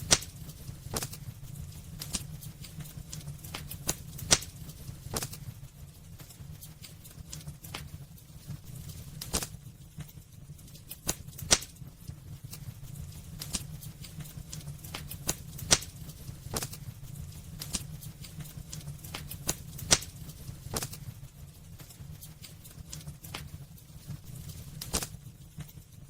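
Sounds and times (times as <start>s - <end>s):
low rumble of burning: 0.0s - 26.0s
wood fire crackling: 0.0s - 26.0s.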